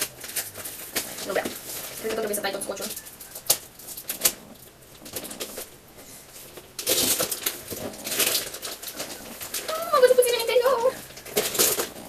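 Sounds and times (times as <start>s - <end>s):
paper wrapping rustling: 0.0s - 12.0s.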